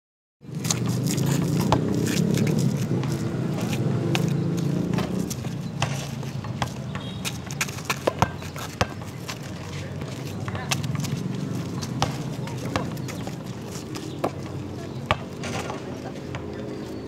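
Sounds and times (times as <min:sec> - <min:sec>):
basketball bouncing on asphalt: 0:00.5 - 0:16.8.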